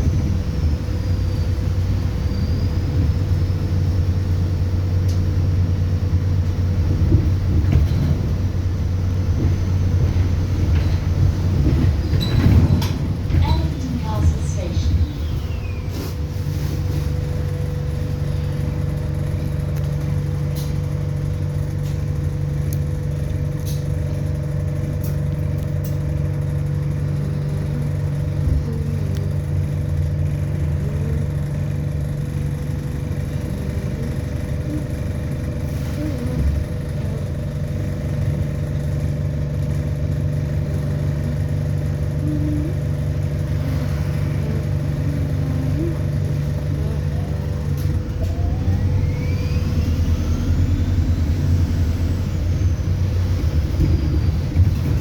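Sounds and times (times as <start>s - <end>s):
bus engine drone: 0.0s - 55.0s
constant hum: 0.0s - 55.0s.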